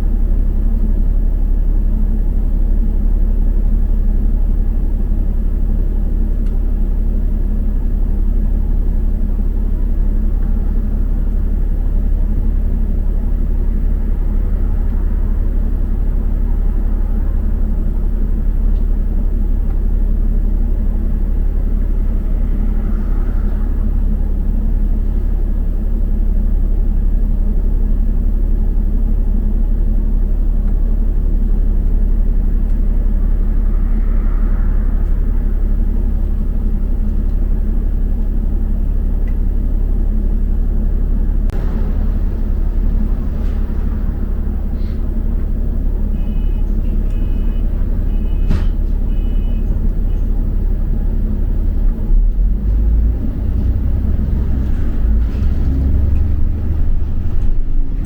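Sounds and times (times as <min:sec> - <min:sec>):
bus engine rumbling: 0:00.0 - 0:58.0
road noise: 0:00.0 - 0:58.0.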